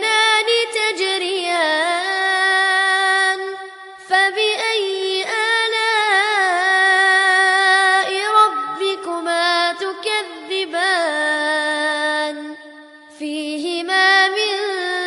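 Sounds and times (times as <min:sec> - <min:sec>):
person chanting melodically: 0:00.0 - 0:15.0.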